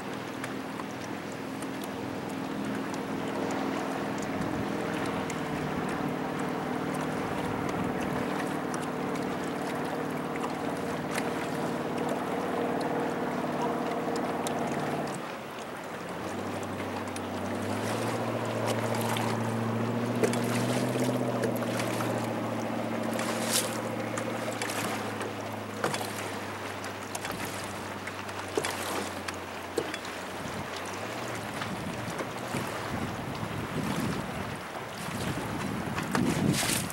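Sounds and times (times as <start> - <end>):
motorboat engine running: 0.0 - 36.9
water splashing against hull: 0.0 - 36.9.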